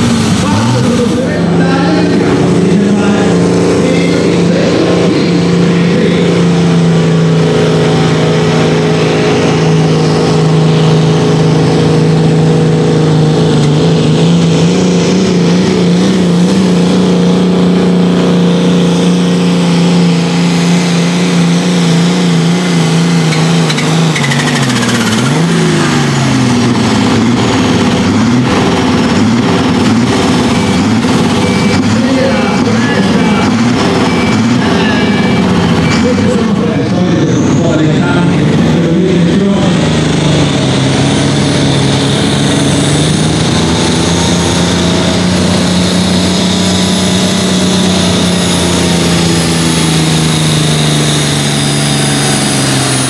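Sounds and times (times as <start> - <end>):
tractor diesel engine at full throttle: 0.0 - 53.0.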